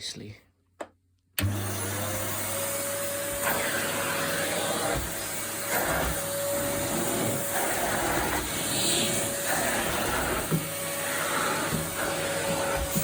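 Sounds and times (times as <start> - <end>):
vacuum cleaner running: 1.4 - 13.0.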